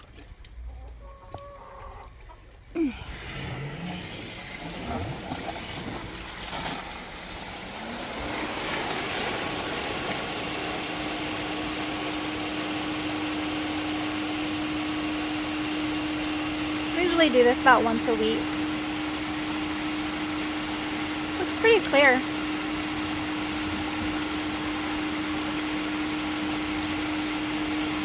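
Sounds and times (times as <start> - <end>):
pool pump motor humming: 1.4 - 28.0
water rushing: 2.8 - 28.0.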